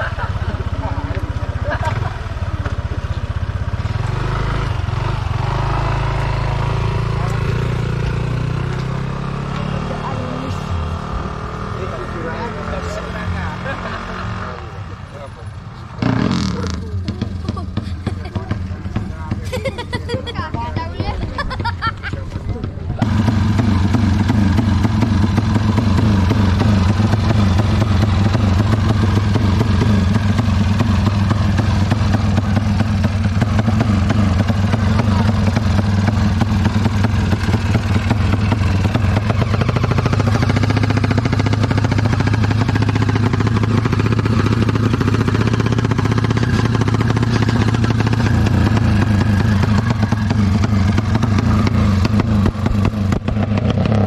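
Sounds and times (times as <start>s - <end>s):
motorcycle engine running loudly: 0.0s - 54.0s.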